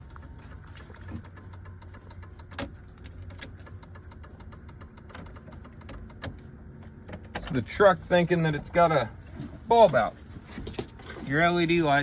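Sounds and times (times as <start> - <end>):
truck idling: 0.0 - 12.0.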